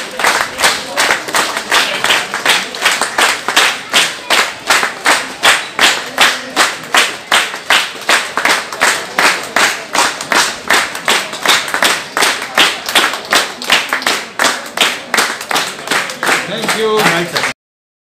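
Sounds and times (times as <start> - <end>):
people clapping in rhythm: 0.0 - 17.6.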